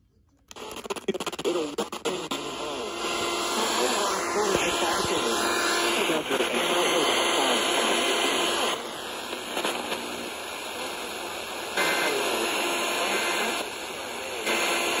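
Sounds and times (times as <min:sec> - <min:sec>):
faint speech: 0:00.0 - 0:15.0
radio static hiss: 0:00.5 - 0:15.0.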